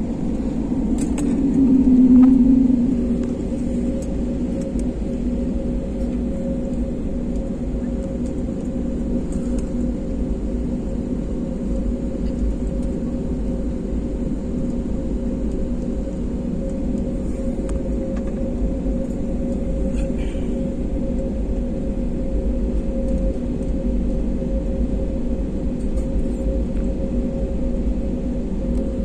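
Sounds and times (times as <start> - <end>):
jet engines humming: 0.0 - 29.0.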